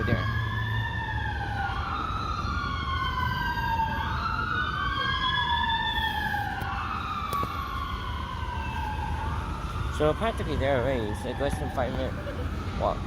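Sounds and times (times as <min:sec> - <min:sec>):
emergency siren wailing: 0:00.0 - 0:13.0
low traffic rumble: 0:00.0 - 0:13.0.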